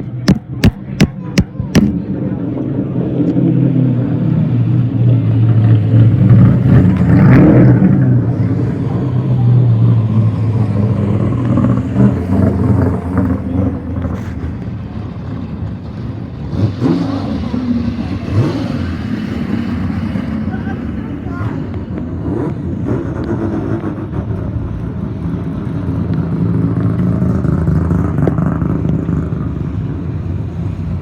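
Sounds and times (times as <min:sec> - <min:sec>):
muscle car engines rumbling: 0:00.0 - 0:31.0.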